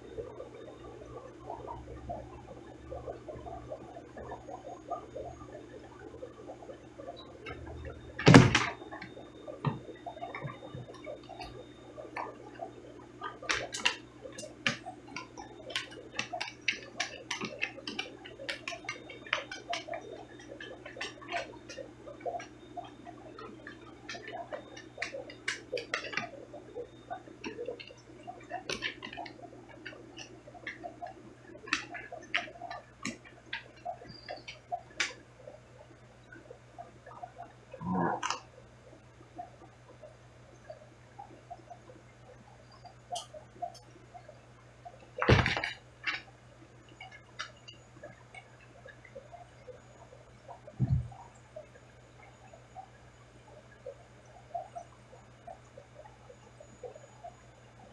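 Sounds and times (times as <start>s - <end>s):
aquarium hum: 0.0s - 57.9s
small clicks and ticks: 0.0s - 57.9s.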